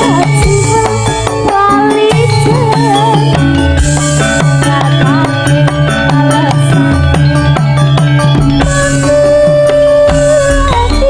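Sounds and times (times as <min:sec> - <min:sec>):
woman singing: 0:00.0 - 0:07.3, 0:08.6 - 0:11.0
bass line: 0:00.0 - 0:11.0
regular drum beat: 0:00.0 - 0:11.0.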